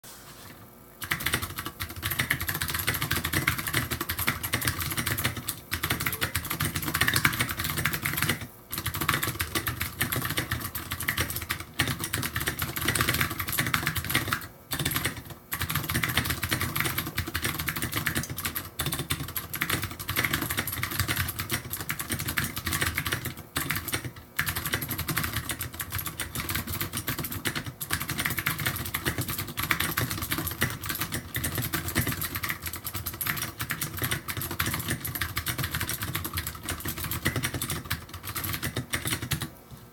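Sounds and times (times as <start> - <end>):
fast typing on mechanical keyboard: 1.0 - 39.5.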